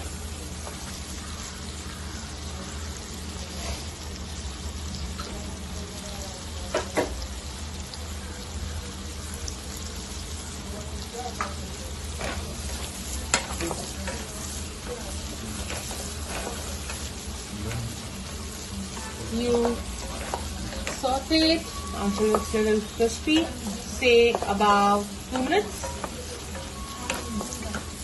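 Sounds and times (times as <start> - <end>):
green beans sizzling in butter: 0.0 - 28.0.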